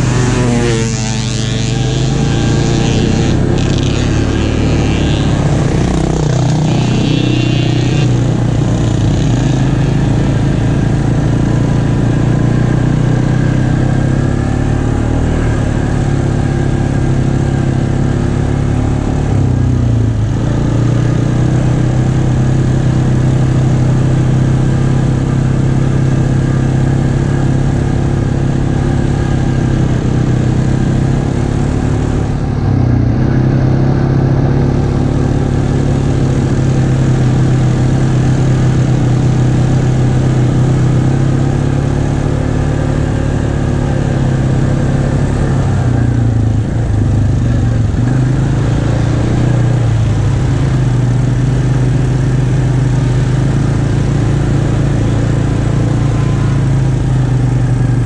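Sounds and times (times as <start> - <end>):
atv engine running: 0.0 - 58.0
tyres on dirt road: 0.0 - 58.0.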